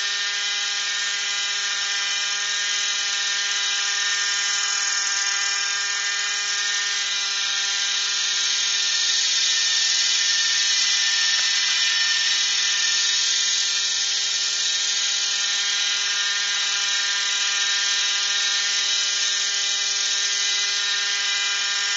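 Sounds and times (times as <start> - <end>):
model helicopter high-pitched whine: 0.0 - 21.9.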